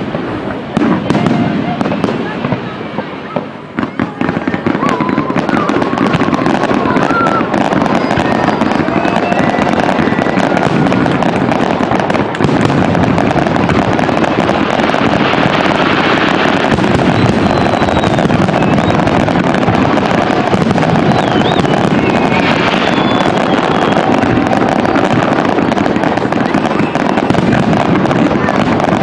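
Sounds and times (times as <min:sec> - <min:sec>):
fireworks bursting and crackling: 0:00.0 - 0:29.0
fireworks whistles: 0:00.0 - 0:29.0.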